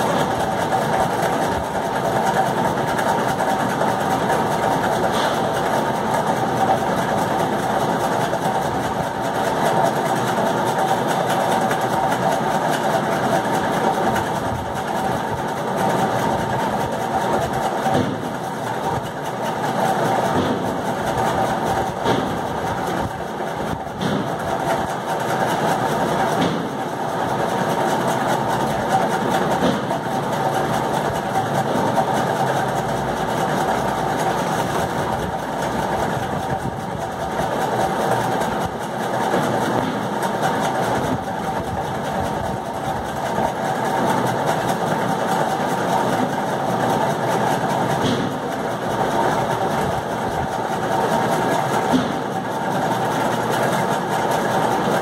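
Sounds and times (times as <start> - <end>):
steady mechanical drone: 0.0 - 55.0.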